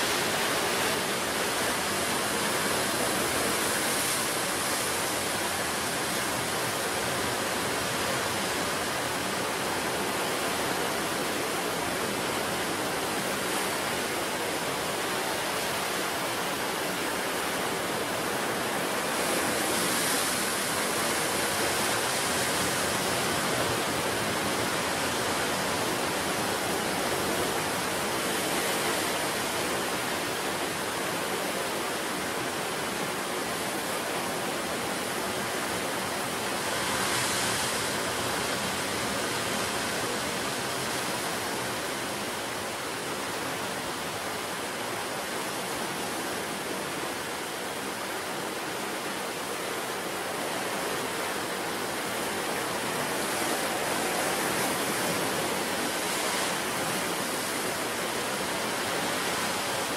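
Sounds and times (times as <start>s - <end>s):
ocean surf breaking waves: 0.0s - 59.9s.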